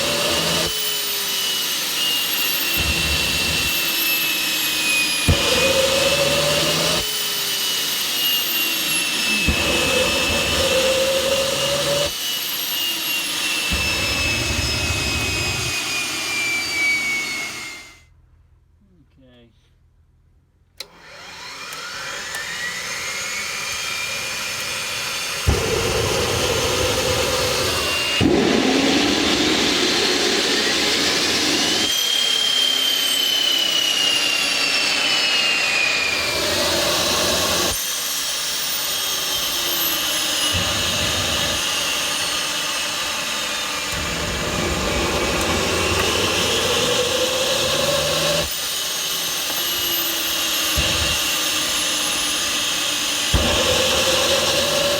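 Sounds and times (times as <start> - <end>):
turbine whine with air rush: 0.0 - 18.1, 20.8 - 54.9.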